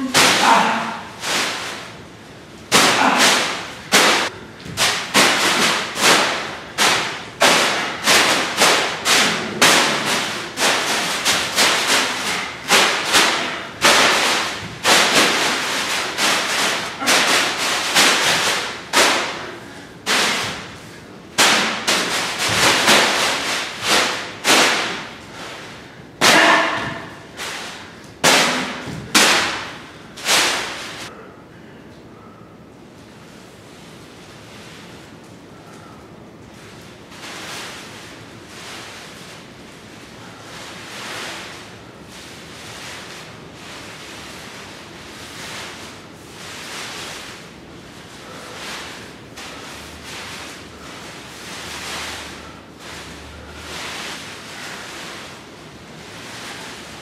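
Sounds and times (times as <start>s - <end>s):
plastic bag swishing: 0.0s - 31.1s, 33.6s - 57.0s.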